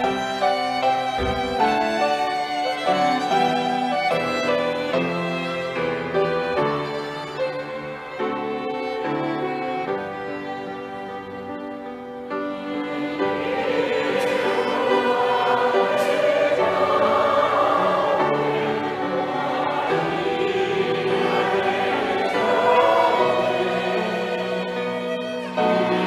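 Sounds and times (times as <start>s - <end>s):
choir singing a hymn: 0.0s - 26.0s
violins and cello: 0.0s - 26.0s.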